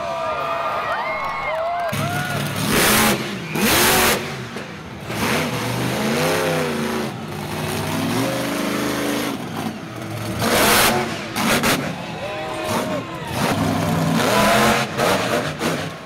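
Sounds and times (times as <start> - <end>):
truck engine revving hard: 1.9 - 16.0.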